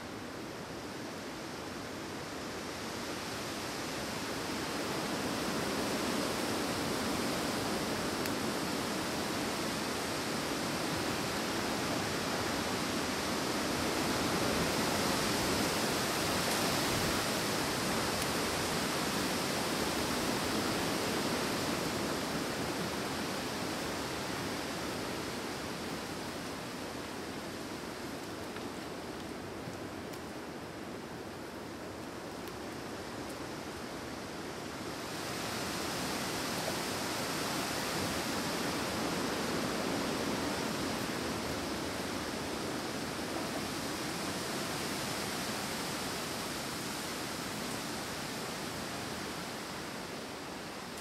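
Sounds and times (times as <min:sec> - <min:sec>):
wind blowing through trees: 0:00.0 - 0:51.0.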